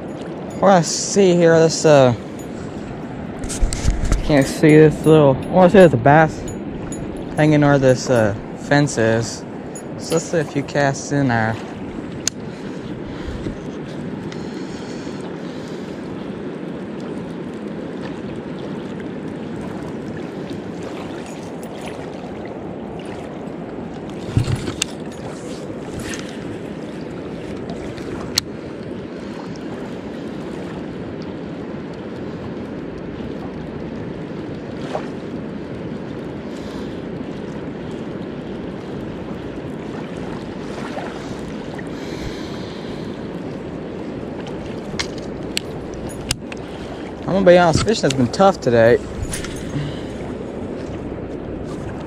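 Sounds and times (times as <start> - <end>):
river water rushing: 0.0 - 52.0
wind: 0.0 - 52.0.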